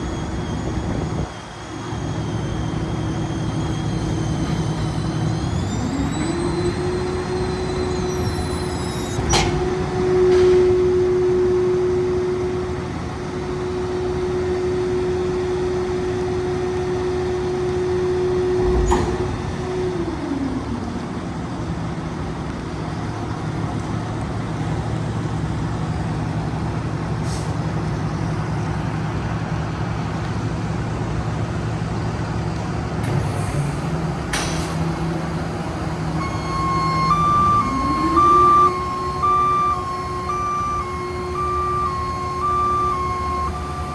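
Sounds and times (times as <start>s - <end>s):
garbage truck diesel engine: 0.0s - 43.9s.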